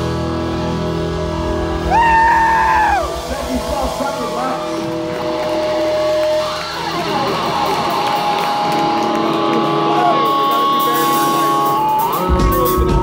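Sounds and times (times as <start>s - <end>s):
electric guitars strumming: 0.0s - 13.0s
live rock band playing: 0.0s - 13.0s.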